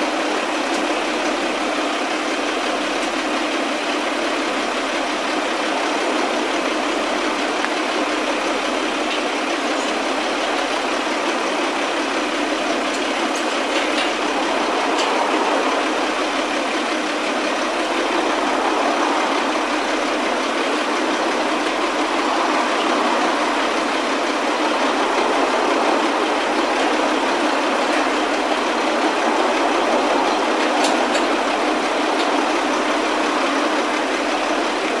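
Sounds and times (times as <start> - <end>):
construction machinery engine running: 0.0 - 35.0.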